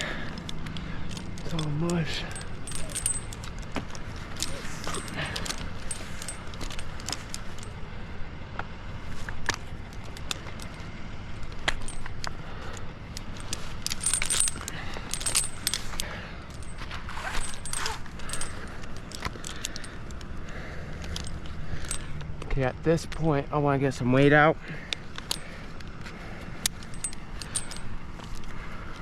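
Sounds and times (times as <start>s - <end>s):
metal climbing hardware clinking: 0.0s - 8.0s, 9.0s - 29.0s.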